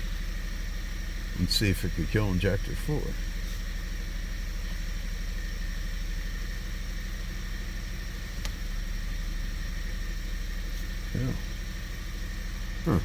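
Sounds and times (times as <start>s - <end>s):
misfiring car engine idling: 0.0s - 13.0s.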